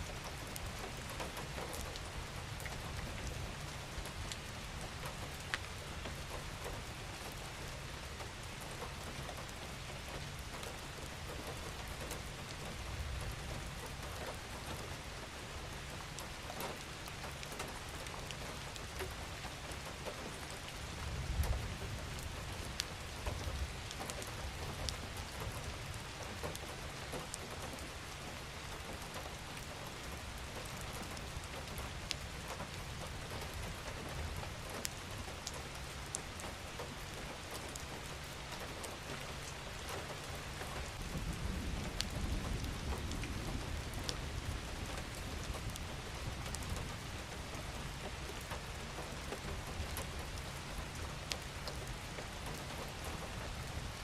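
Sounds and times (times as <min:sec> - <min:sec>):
gentle rain falling: 0:00.0 - 0:54.0
raindrops ticking: 0:00.0 - 0:54.0.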